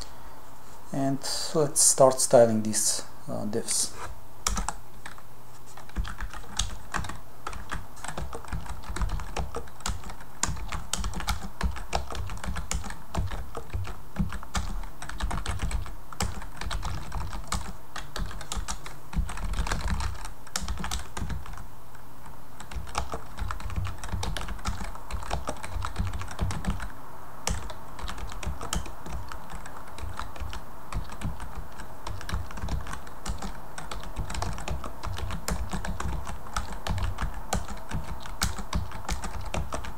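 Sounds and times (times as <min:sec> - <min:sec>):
keyboard typing: 0:04.4 - 0:21.6, 0:22.6 - 0:39.9.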